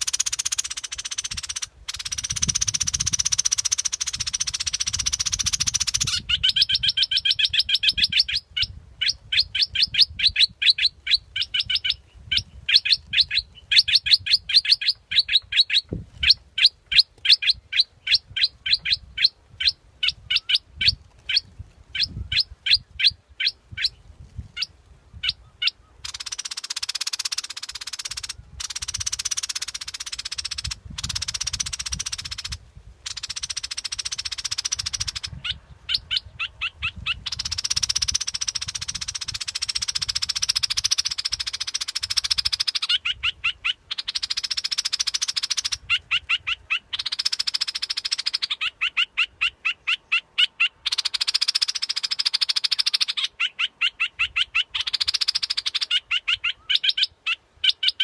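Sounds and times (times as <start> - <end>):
bulbul chattering calls: 0.0 - 24.0, 24.6 - 58.0.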